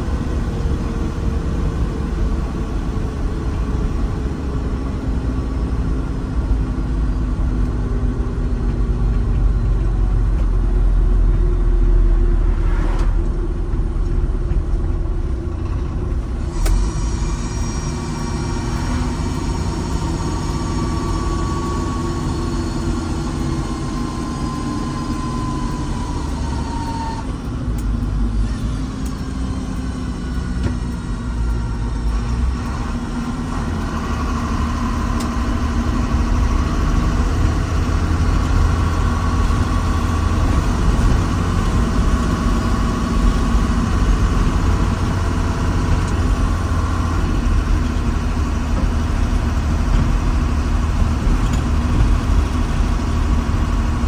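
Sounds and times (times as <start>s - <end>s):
construction equipment diesel engine: 0.0s - 54.0s.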